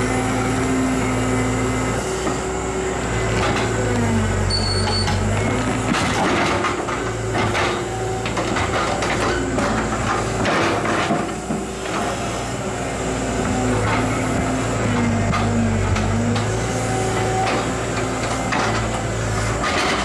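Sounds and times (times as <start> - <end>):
excavator diesel engine: 0.0 - 20.0.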